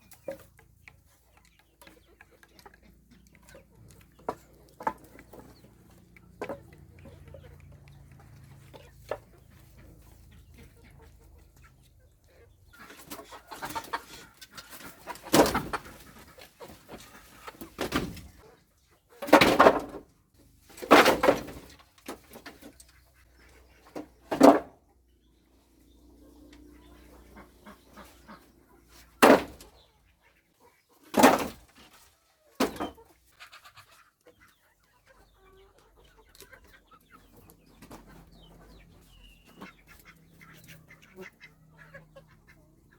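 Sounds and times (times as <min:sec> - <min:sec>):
chickens clucking: 0:00.0 - 0:42.9.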